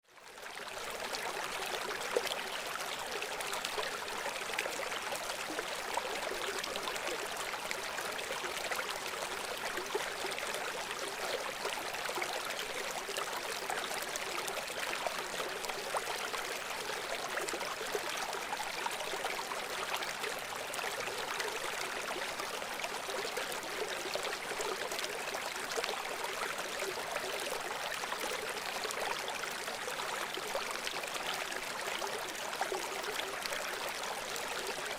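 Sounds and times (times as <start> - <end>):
river water flowing: 0.3 - 34.9.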